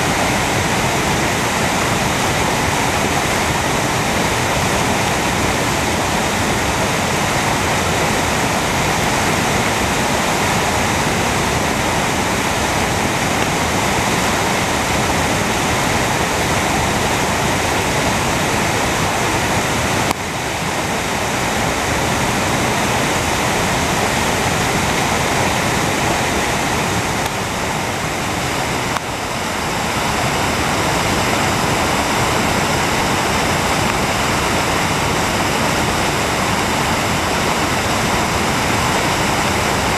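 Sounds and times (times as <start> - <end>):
floodwater rushing over rocks: 0.0 - 39.9.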